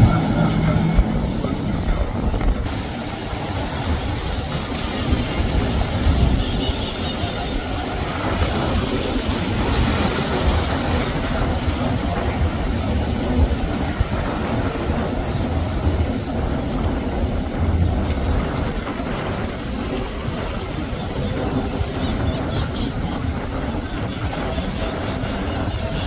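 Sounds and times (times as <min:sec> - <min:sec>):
boat engine rumble: 0:00.0 - 0:26.0
wake rushing through water: 0:00.0 - 0:26.0.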